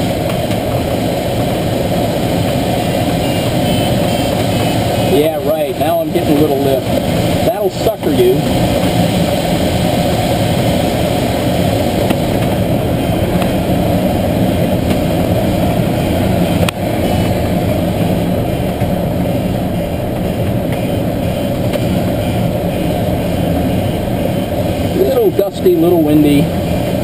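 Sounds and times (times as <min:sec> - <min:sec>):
airflow rushing around cockpit: 0:00.0 - 0:27.0.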